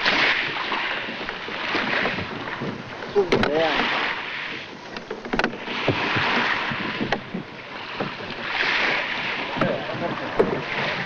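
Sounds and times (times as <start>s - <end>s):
sea water washing around boat: 0.0s - 11.0s
wooden knocks: 1.2s - 3.9s, 4.5s - 11.0s.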